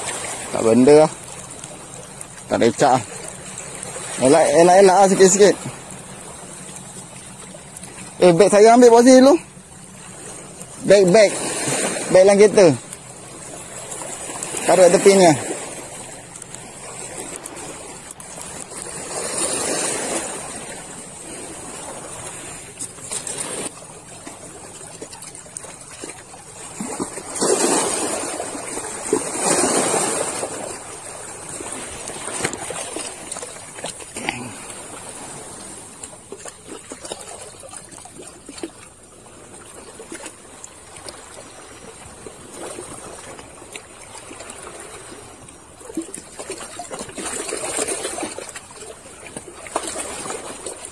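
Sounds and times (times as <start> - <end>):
waves splashing against rocks: 0.0 - 50.9.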